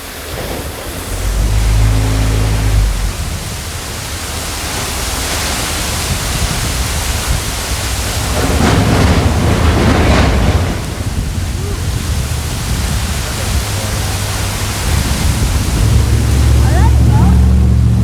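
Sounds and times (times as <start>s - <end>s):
waterfall roaring: 0.0s - 18.0s
deep low rumbling: 0.4s - 18.0s.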